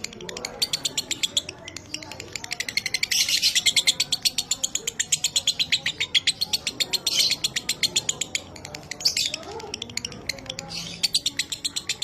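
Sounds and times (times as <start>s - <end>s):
harsh scratchy bird calls: 0.0s - 12.0s.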